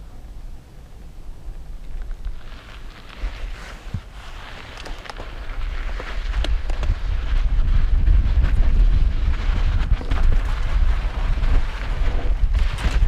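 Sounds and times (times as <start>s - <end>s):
wind rushing over microphone: 0.0s - 13.0s
stones and bike rattling: 1.5s - 13.0s
tyres rumbling on dirt: 1.7s - 13.0s.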